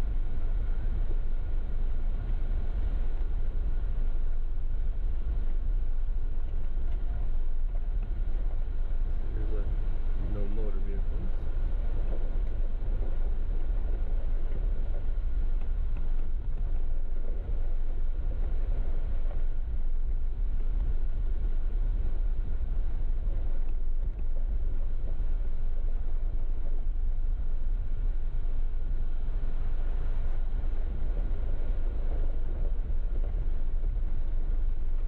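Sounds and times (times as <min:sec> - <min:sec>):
off-road vehicle engine rumble: 0:00.0 - 0:35.0.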